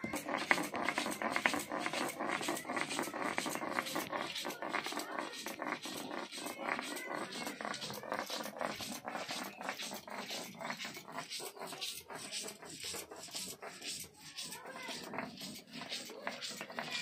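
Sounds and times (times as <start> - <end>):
stone grinding gritty scraping: 0.0 - 17.0.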